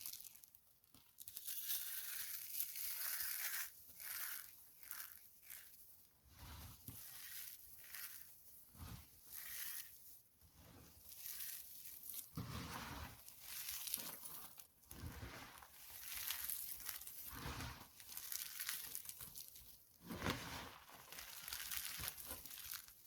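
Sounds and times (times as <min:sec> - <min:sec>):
dry soap crunching: 0:00.0 - 0:23.0.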